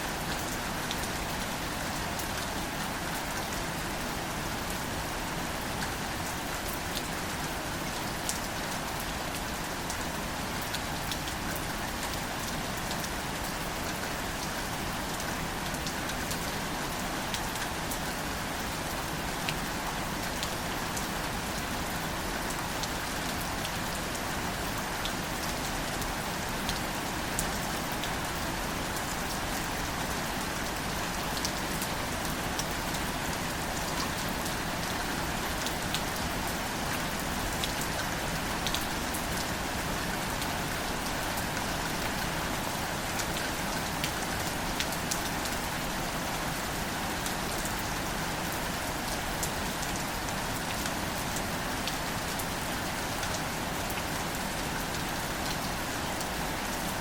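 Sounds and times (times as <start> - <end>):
gentle rain hiss: 0.0 - 57.0.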